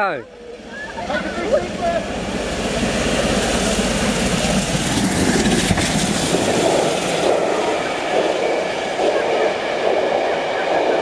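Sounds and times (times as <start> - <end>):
steam locomotive passing: 0.3 - 11.0.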